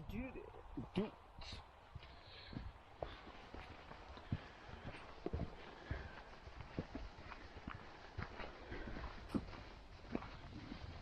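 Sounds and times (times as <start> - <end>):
faint footsteps on a trail: 0.0 - 11.0.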